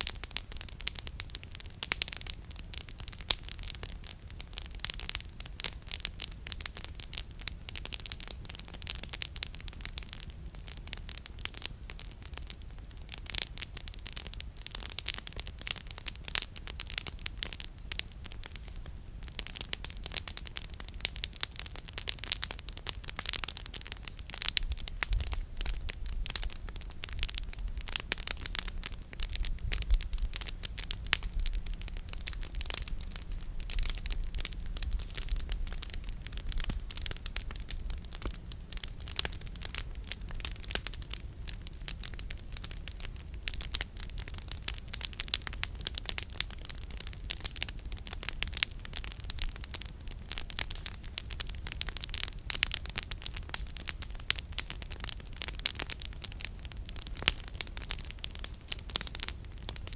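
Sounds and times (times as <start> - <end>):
low steady rumble: 0.0 - 59.8
firewood crackling: 0.0 - 59.9.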